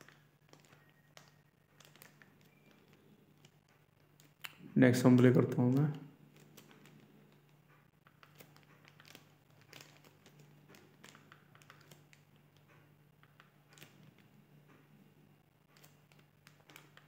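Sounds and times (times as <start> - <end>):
soft clicks and rustles: 0.0 - 17.0.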